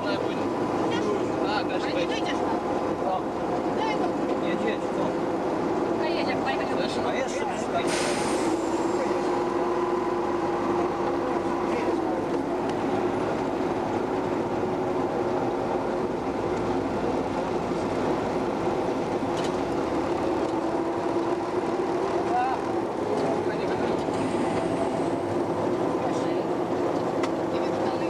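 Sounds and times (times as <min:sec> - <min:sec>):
diesel locomotive engine humming: 0:00.0 - 0:28.0.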